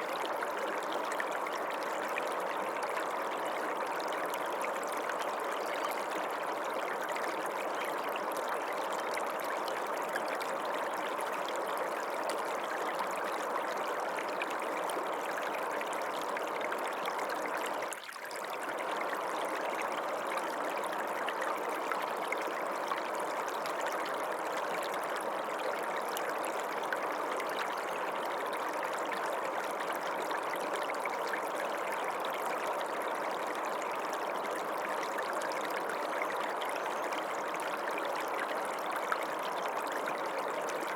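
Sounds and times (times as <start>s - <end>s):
stream water rushing and trickling: 0.0s - 40.9s.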